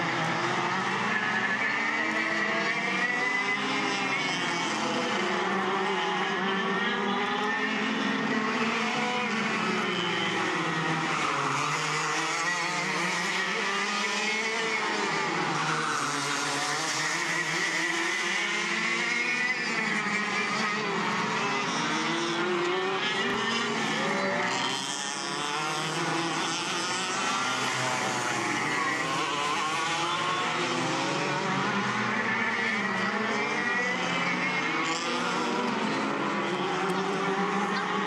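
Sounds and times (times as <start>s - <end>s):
go-kart engines racing: 0.0s - 38.0s.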